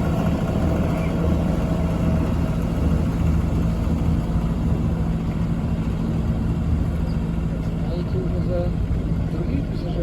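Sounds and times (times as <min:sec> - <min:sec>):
ship diesel engines droning: 0:00.0 - 0:10.0.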